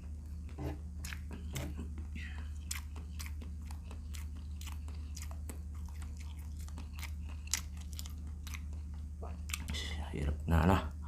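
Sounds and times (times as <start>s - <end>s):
chewing and crunching: 0.0s - 9.7s
steady low hum: 0.0s - 11.0s.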